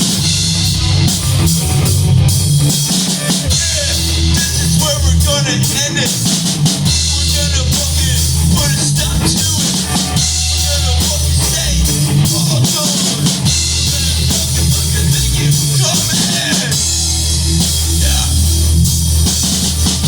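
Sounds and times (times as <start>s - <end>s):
rock band playing loudly: 0.0s - 20.0s.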